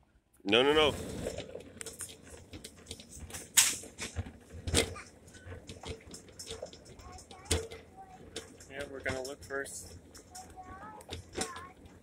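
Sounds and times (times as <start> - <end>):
shopping cart rattling: 0.5 - 12.0.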